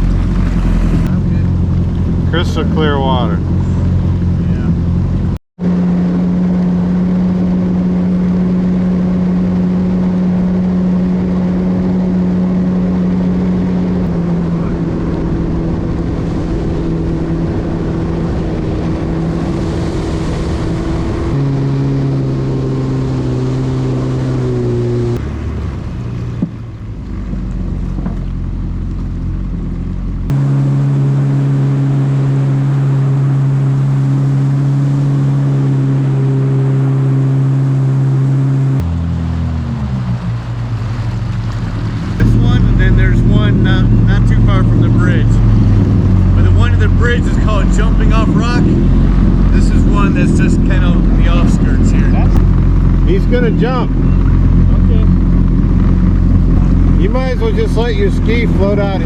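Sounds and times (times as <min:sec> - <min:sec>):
personal watercraft engine running: 0:00.0 - 0:59.0
water and wind noise: 0:00.0 - 0:59.0.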